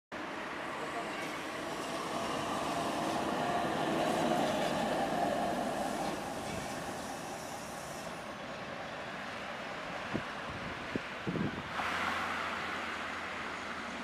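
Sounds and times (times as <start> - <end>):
tram wheels rumbling on rail: 0.2 - 14.0.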